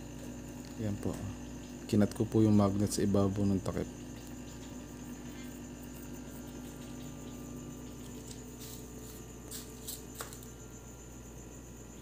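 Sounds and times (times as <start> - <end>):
low electrical hum of fan: 0.0 - 12.0.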